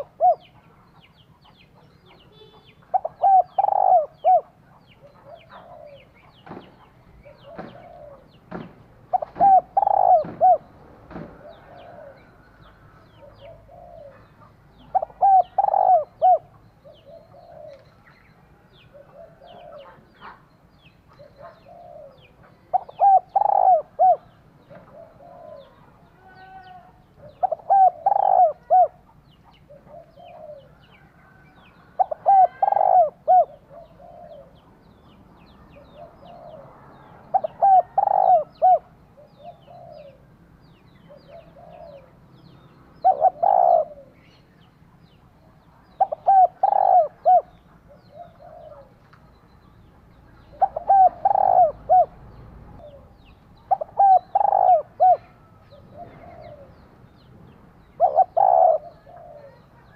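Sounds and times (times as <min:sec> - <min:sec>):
dove cooing: 0:00.0 - 0:35.1, 0:35.7 - 0:40.4, 0:41.0 - 0:42.4, 0:43.0 - 0:44.5, 0:45.4 - 0:49.6, 0:50.4 - 0:59.9.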